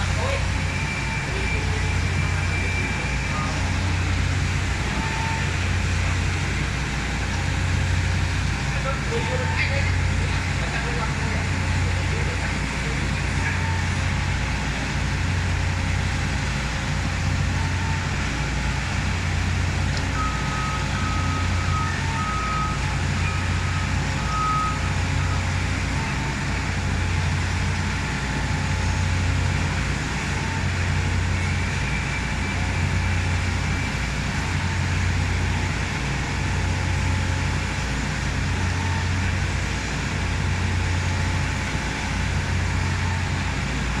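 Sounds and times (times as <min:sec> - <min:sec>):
reversing alarm beeping: 0:00.0 - 0:06.8, 0:08.9 - 0:14.7, 0:17.2 - 0:37.7, 0:38.4 - 0:39.8, 0:40.4 - 0:43.8
heavy machinery droning: 0:00.0 - 0:44.0.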